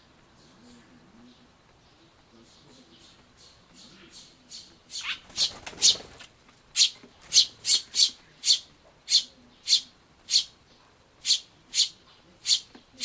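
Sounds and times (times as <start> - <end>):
sparrow chirping: 0.4 - 6.0, 6.7 - 13.0.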